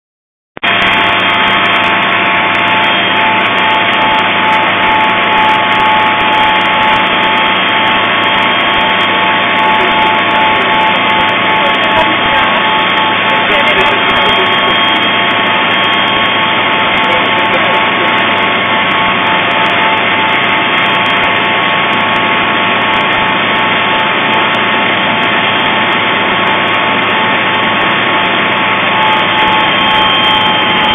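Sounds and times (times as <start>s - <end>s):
helicopter engine and rotor drone: 0.6s - 30.9s
steady whining tones: 0.6s - 30.9s.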